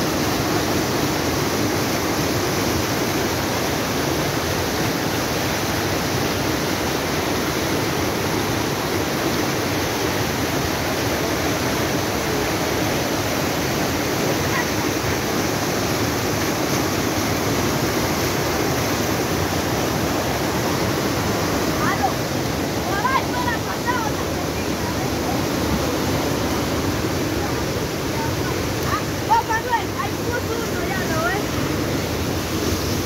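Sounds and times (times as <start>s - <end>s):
creek rushing over boulders: 0.0s - 33.0s.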